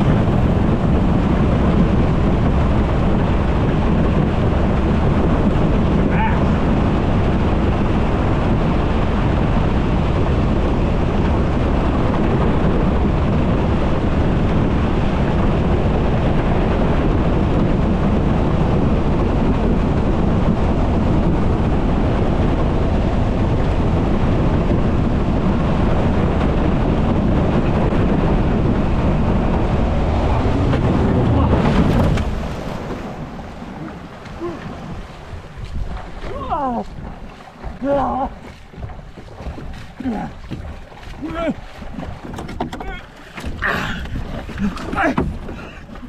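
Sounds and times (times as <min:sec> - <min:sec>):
outboard motor running: 0:00.0 - 0:46.0
water rushing past hull: 0:00.0 - 0:46.0
wind on microphone: 0:00.0 - 0:46.0.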